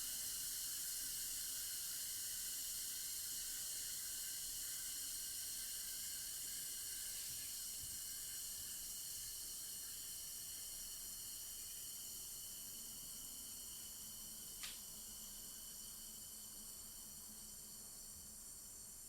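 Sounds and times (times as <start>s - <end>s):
effervescent tablet fizzing: 0.0s - 19.0s.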